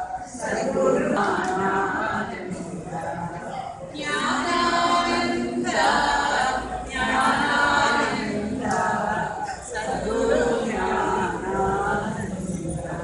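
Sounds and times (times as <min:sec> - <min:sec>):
group chanting a hymn: 0:00.0 - 0:13.0.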